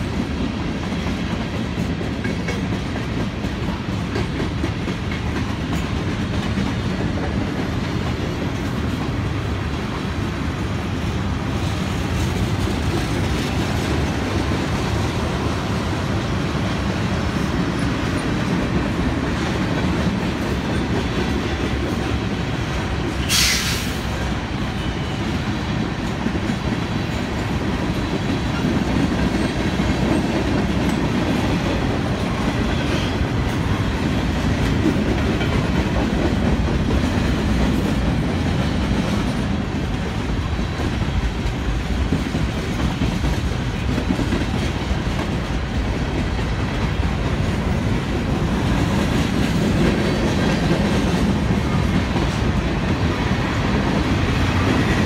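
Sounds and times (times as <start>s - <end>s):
freight train wheels on track: 0.0s - 55.0s.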